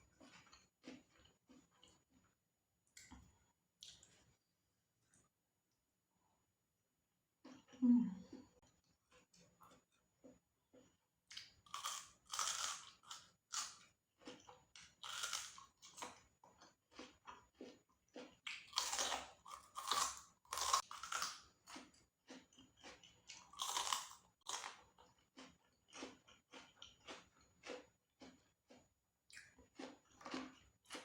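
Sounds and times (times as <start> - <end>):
chewing crunchy food: 0.0 - 5.3, 7.4 - 31.0.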